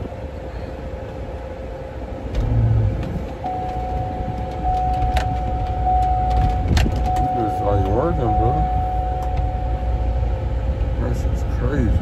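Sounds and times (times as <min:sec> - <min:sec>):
car engine rumble: 0:00.0 - 0:12.0
higher whine tone: 0:00.0 - 0:12.0.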